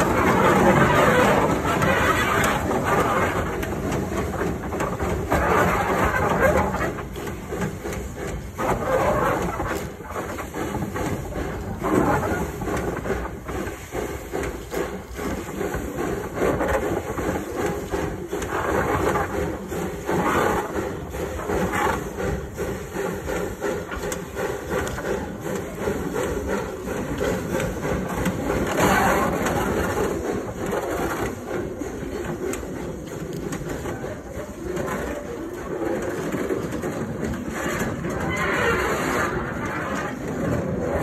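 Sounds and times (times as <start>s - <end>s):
steam engine exhaust chuffing: 0.0s - 41.0s
steam hissing: 0.0s - 41.0s.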